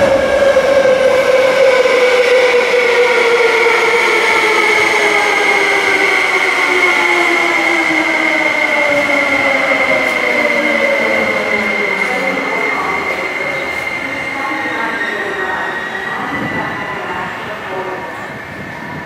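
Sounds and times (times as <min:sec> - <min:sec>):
electric train whining: 0:00.0 - 0:19.0.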